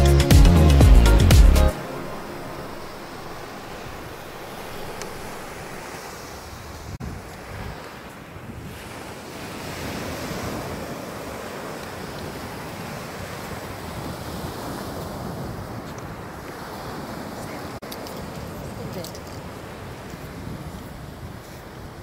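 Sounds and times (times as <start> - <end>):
ocean surf washing on beach: 1.7 - 22.0
wind buffeting microphone: 2.7 - 22.0.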